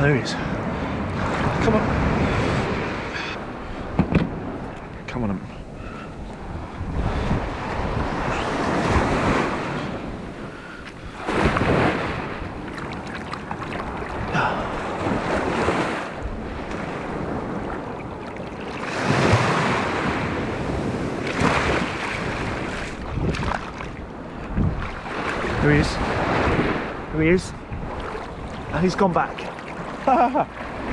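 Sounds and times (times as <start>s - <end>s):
sea waves breaking on beach: 0.0s - 30.9s
wind buffeting microphone: 0.0s - 30.9s.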